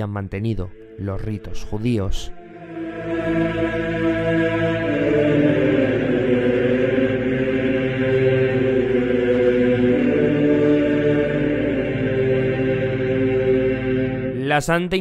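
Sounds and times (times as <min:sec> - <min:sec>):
chant-like voices music: 0:00.0 - 0:15.0.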